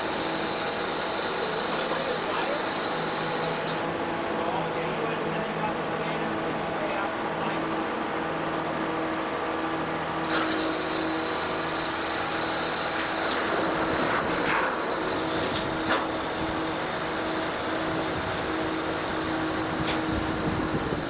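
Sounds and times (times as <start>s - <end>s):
ferry engine humming: 0.0s - 21.0s.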